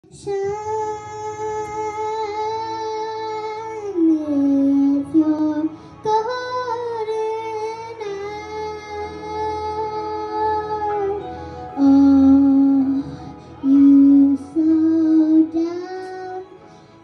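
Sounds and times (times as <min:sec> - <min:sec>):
high voice singing karaoke: 0:00.0 - 0:16.8.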